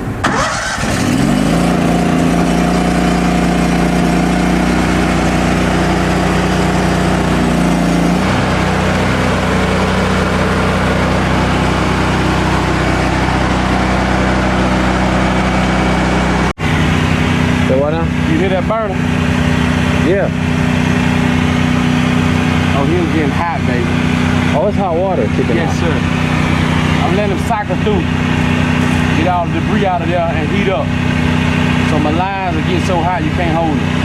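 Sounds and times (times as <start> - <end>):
pressure washer engine running: 0.0 - 34.0.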